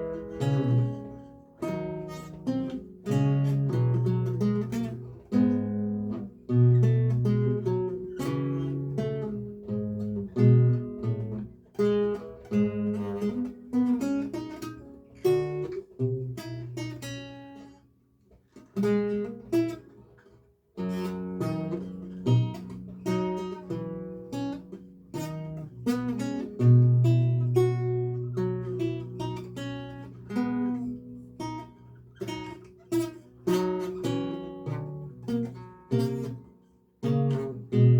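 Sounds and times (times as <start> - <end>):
solo lute playing: 0.0 - 17.9, 18.5 - 20.1, 20.8 - 37.9.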